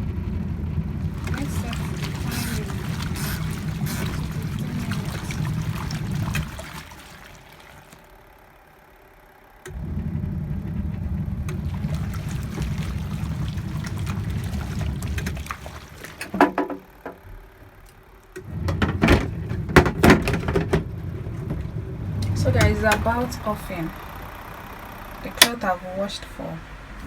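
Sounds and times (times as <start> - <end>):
washing machine motor humming: 0.7 - 27.0.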